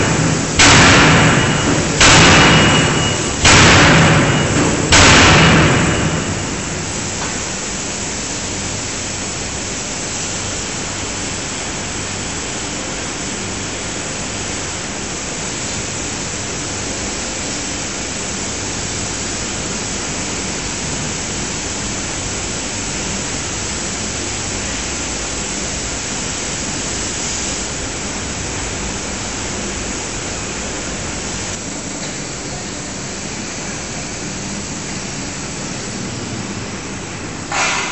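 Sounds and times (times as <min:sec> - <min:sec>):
low machinery hum: 0:00.0 - 0:37.9
machinery hiss: 0:00.0 - 0:37.9.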